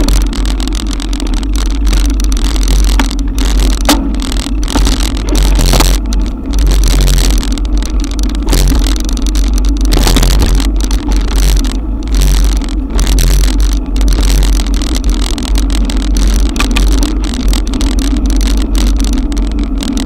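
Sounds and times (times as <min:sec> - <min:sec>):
rain noise: 0:00.0 - 0:20.0
sharp ticks: 0:00.0 - 0:20.0
wind rumble on microphone: 0:00.0 - 0:20.0.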